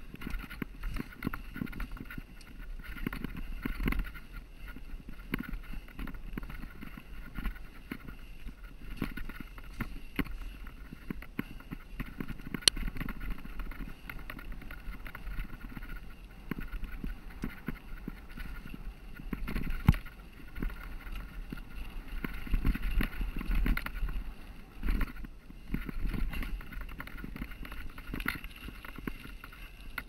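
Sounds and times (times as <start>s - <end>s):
bike rattling and knocking: 0.0s - 30.0s
bike tyres on gravel and rock: 0.0s - 30.0s.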